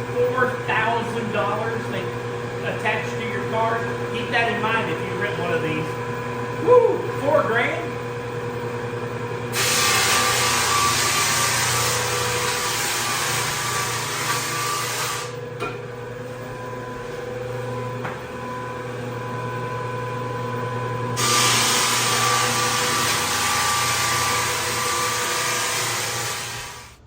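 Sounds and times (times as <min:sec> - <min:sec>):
floor sander motor hum: 0:00.0 - 0:27.0.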